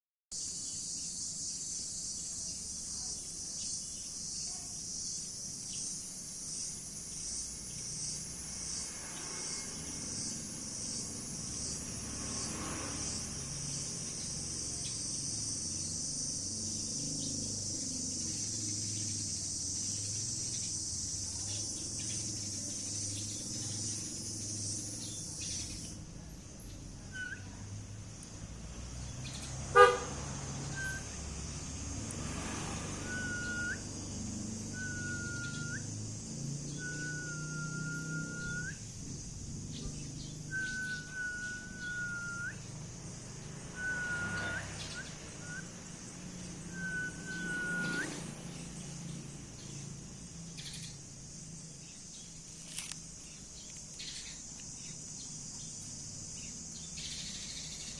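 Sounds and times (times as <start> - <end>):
high insect chorus: 0.3 - 57.9.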